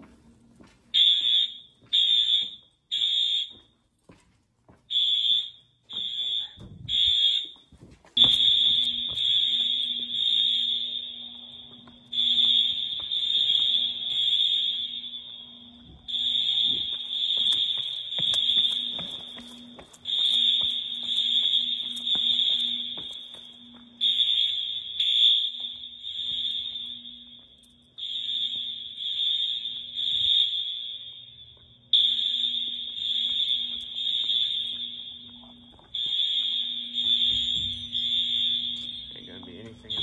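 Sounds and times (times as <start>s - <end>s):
fire alarm horns blasting: 0.9s - 3.8s, 4.9s - 40.0s.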